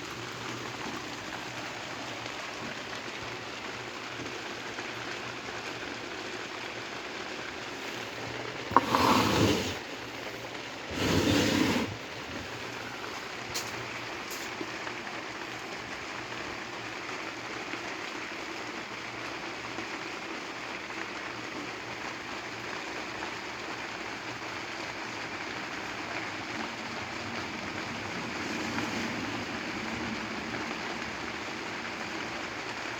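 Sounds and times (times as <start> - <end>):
pump motor hum: 0.0 - 32.9.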